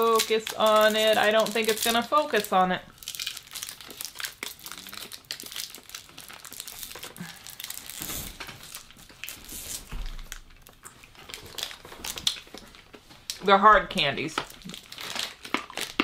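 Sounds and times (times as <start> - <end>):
candy wrappers crinkling: 0.0 - 16.0.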